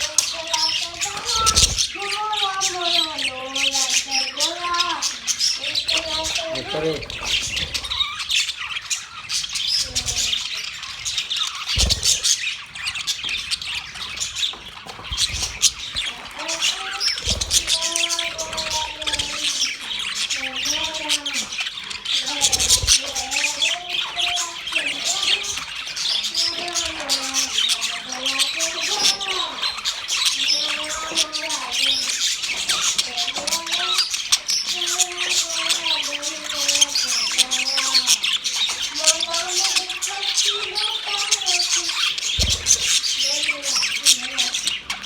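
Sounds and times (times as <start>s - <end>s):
cage birds chirping: 0.0s - 45.0s
lower curving bird calls: 0.0s - 45.0s.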